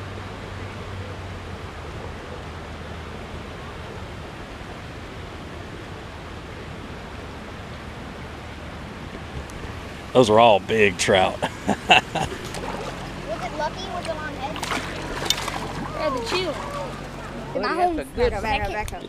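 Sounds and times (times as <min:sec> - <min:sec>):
rushing water in raceways: 0:00.0 - 0:18.8
low steady hum: 0:00.0 - 0:19.0.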